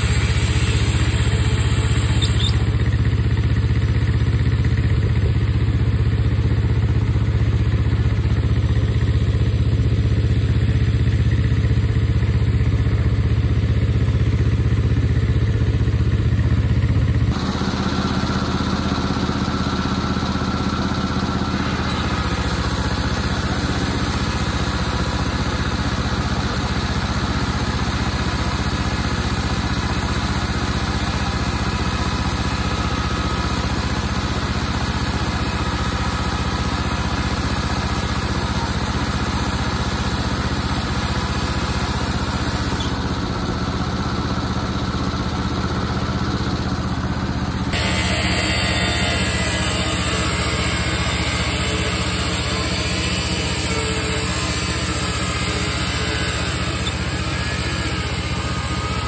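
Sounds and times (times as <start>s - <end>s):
engine droning: 0.0s - 59.0s.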